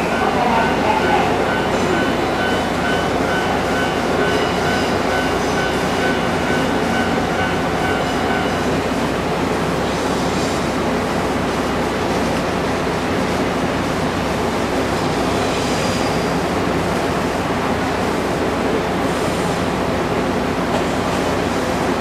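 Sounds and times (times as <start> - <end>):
electric train rumbling slowly: 0.0 - 22.0.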